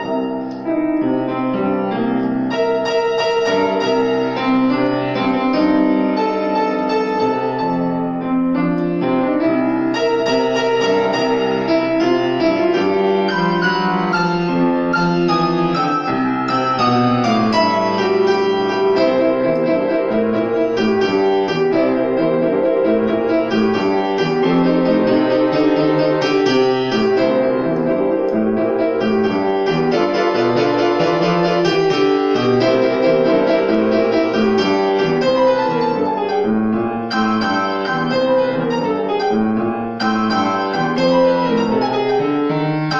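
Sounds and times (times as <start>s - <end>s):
solo piano playing: 0.0s - 42.9s.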